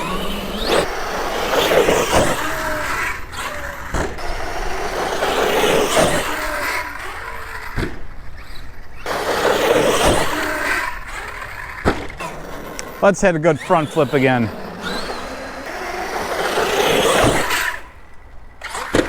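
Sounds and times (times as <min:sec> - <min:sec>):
toy truck motor whining: 0:00.0 - 0:19.0
tyres churning through slush: 0:00.0 - 0:19.0.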